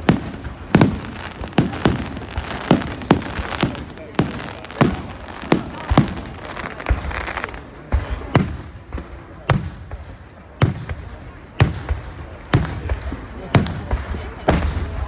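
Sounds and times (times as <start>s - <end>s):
fireworks bursting with bangs: 0.0s - 15.0s.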